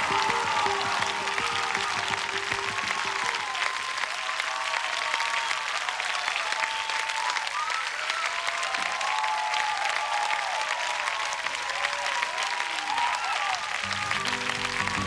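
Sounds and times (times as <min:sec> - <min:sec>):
audience applauding and cheering: 0:00.0 - 0:15.0.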